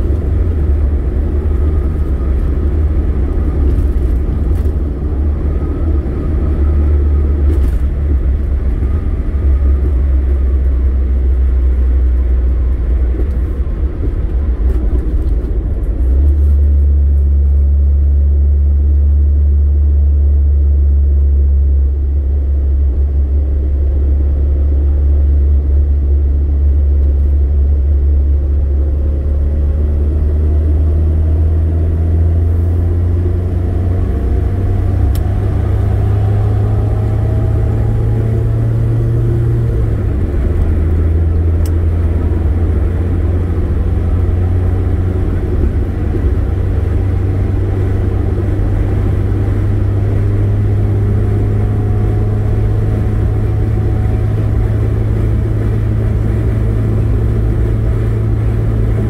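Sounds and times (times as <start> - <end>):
car engine drone: 0.0 - 59.0
road noise inside car: 0.0 - 59.0.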